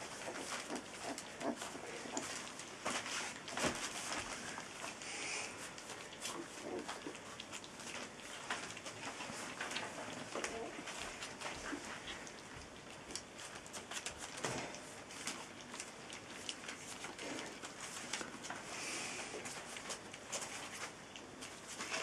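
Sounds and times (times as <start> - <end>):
puppies crunching kibble: 0.0 - 22.0.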